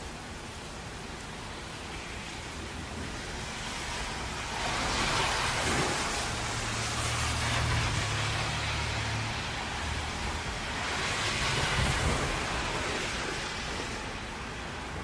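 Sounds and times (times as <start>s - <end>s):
steady rain: 0.0s - 15.0s
tyres hissing on a wet road: 0.0s - 15.0s.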